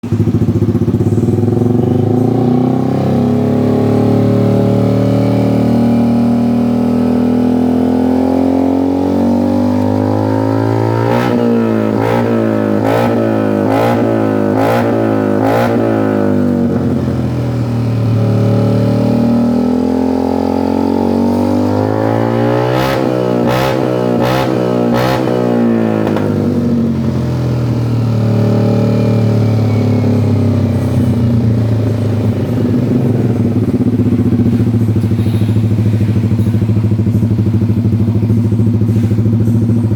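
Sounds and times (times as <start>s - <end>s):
scooter engine idling and revving: 0.0s - 39.9s.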